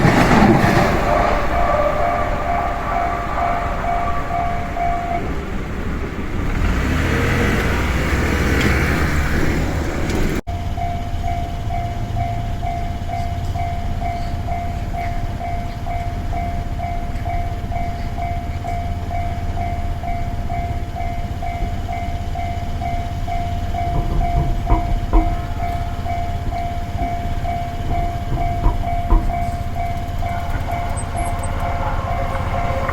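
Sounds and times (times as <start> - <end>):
crossing warning bell: 0.0 - 32.9
train wheel and rail noise: 0.0 - 32.9.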